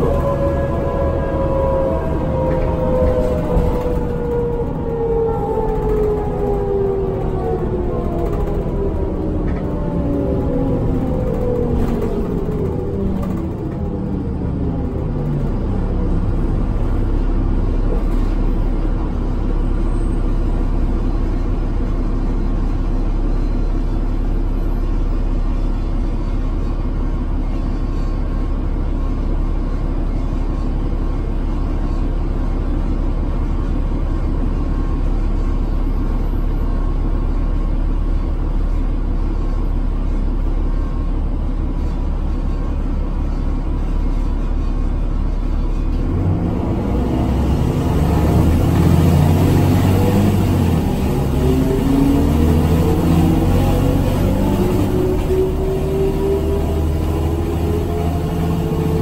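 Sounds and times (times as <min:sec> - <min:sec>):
bus engine droning: 0:00.0 - 0:59.0
road noise: 0:00.0 - 0:59.0.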